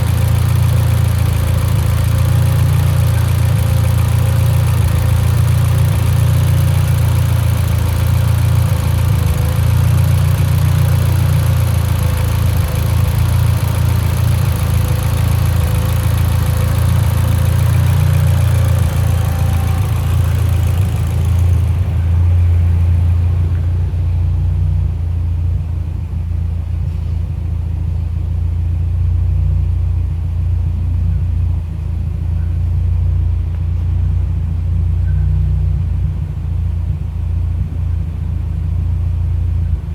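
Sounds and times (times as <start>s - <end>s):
car engine idling with misfires: 0.0s - 39.9s.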